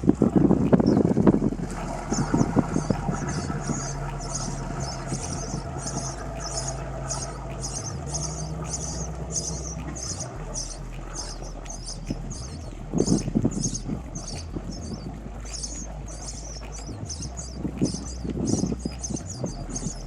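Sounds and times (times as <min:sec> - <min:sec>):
boat engines humming: 0:00.0 - 0:20.0
high chirp: 0:00.0 - 0:20.0.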